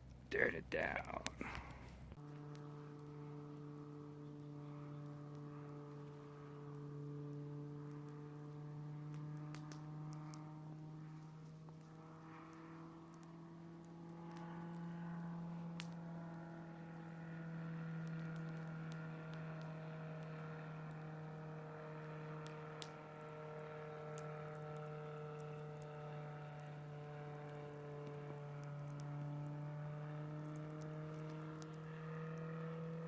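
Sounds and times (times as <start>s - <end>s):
small airplane engine drone: 0.0s - 33.0s.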